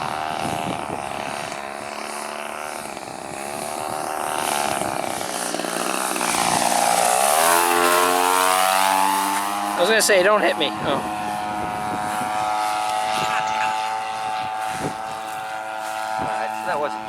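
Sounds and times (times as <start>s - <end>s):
model plane engine flying low: 0.0s - 17.0s.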